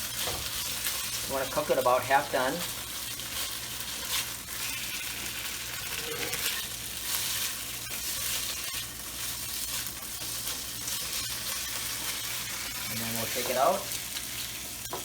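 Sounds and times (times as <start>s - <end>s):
shrimp sizzling in hot oil: 0.0s - 15.0s.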